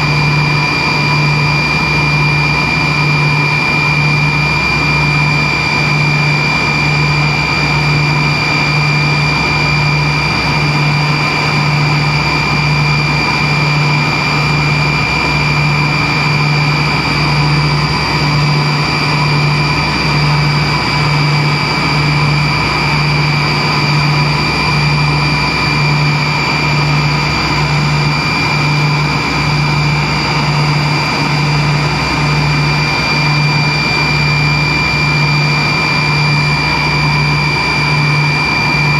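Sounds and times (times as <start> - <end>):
jet engines roaring and whining: 0.0 - 38.9.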